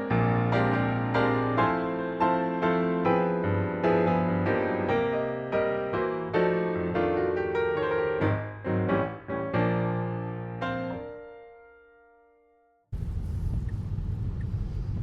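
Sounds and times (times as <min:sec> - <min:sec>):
piano music: 0:00.0 - 0:12.8.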